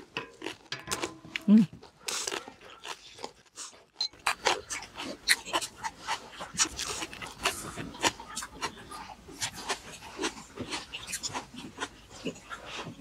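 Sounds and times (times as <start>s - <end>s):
person chewing and smacking food: 0.0s - 13.0s.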